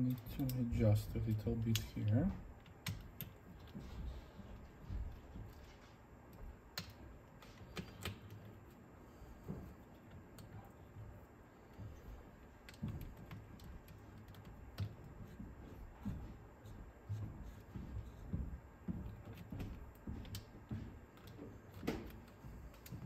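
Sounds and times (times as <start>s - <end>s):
small clicks and taps of tools: 0.1s - 8.8s, 11.7s - 16.3s, 17.6s - 23.0s.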